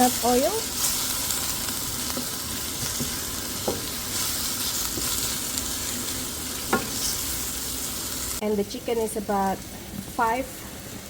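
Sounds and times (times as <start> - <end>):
garlic and onion sizzling in oil: 0.0 - 11.0.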